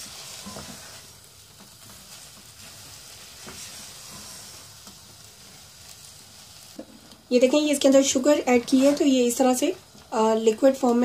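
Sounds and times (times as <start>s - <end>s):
spatula scraping pan: 0.0s - 9.6s
faint sizzle: 0.0s - 11.0s.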